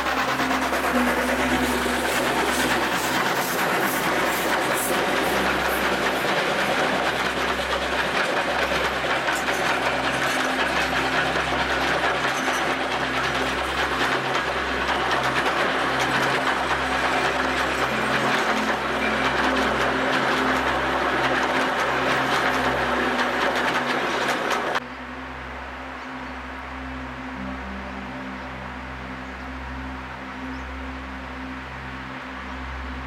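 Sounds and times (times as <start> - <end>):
train rolling on track: 0.0 - 33.0.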